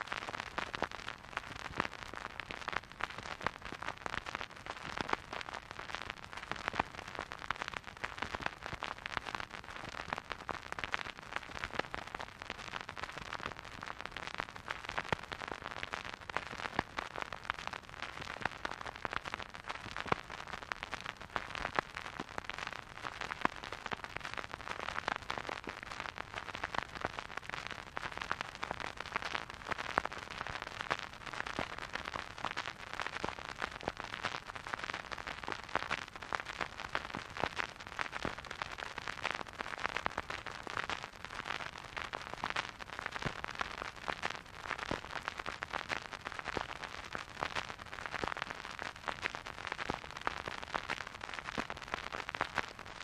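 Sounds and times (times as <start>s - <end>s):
vinyl record crackle and pops: 0.0s - 53.0s.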